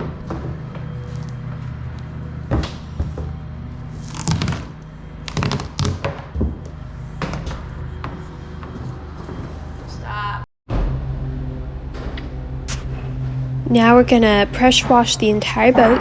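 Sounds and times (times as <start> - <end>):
background music with low pulse: 0.0 - 10.0, 10.7 - 16.0.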